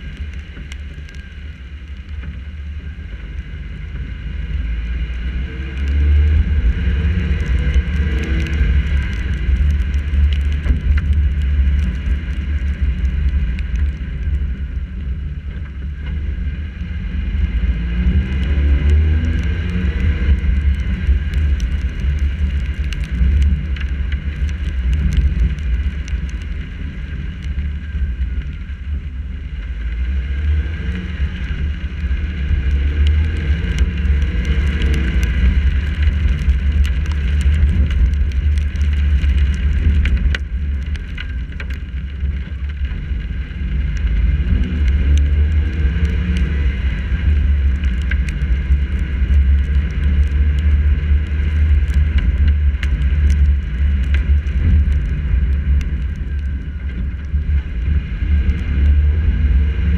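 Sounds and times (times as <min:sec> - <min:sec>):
road noise: 0:00.0 - 0:59.9
wind buffeting camera: 0:05.6 - 0:59.9
raindrops ticking on housing: 0:05.7 - 0:16.3, 0:18.0 - 0:28.8, 0:29.7 - 0:59.9.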